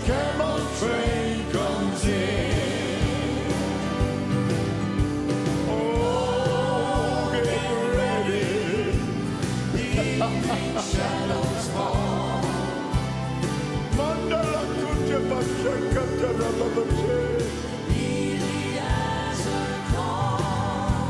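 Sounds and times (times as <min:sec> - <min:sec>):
drums: 0:00.0 - 0:21.0
piano: 0:00.0 - 0:21.0
voices singing with vibrato: 0:00.0 - 0:21.0.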